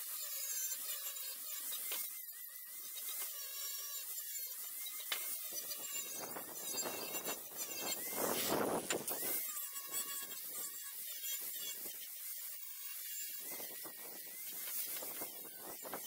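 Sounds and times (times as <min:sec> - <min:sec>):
angle grinder motor whine: 0:00.0 - 0:16.0.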